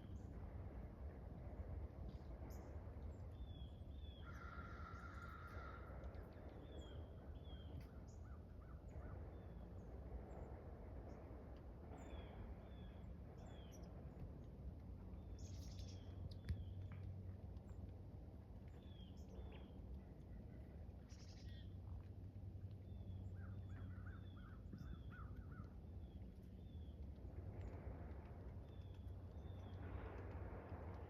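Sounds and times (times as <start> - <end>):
faint low rumble: 0.0 - 31.0.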